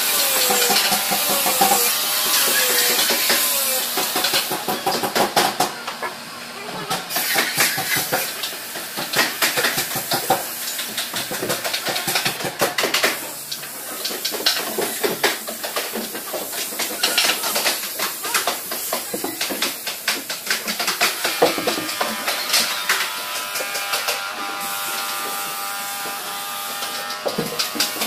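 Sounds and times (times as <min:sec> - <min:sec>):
workshop clicks and knocks: 0:00.0 - 0:06.1, 0:06.7 - 0:28.0.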